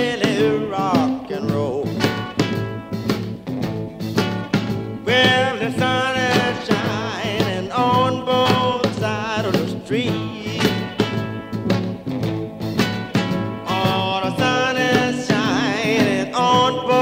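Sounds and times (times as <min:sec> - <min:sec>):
song with singing voice: 0:00.0 - 0:03.4, 0:04.0 - 0:11.6, 0:12.8 - 0:17.0.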